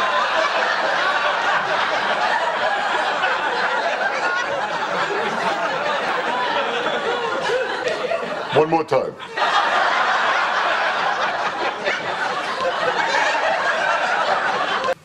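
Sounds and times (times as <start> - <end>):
studio audience laughing: 0.0 - 15.0.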